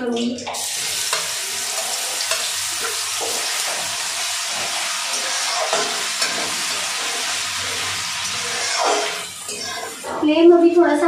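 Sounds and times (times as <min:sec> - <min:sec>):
paste sizzling in hot oil: 0:00.6 - 0:10.2
spatula scraping pan: 0:00.8 - 0:10.3.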